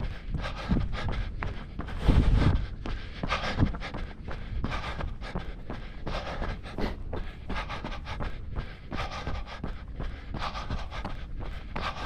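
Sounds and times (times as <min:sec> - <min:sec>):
rhythmic panting breaths: 0:00.0 - 0:12.0.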